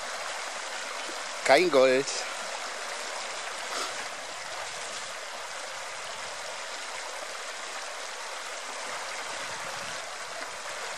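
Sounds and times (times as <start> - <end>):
river rushing over stones: 0.0 - 10.9.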